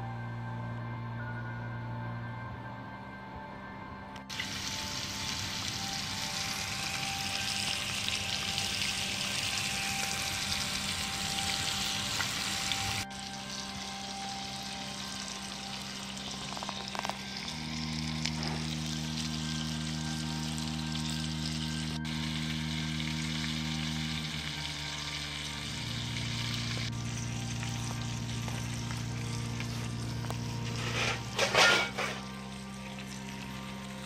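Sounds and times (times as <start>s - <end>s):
background music: 0.0s - 34.0s
food sizzling in a skillet: 4.3s - 21.5s, 22.1s - 33.6s.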